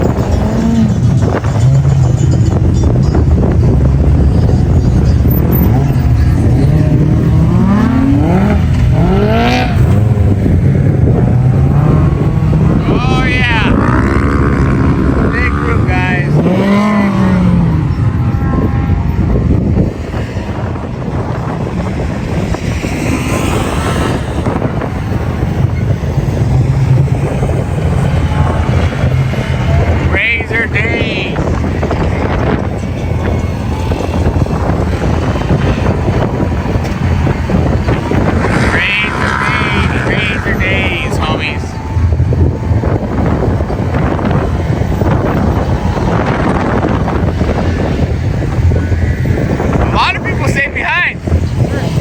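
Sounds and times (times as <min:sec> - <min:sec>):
utility vehicle engine revving: 0:00.0 - 0:52.0
wind buffeting microphone: 0:00.0 - 0:52.0.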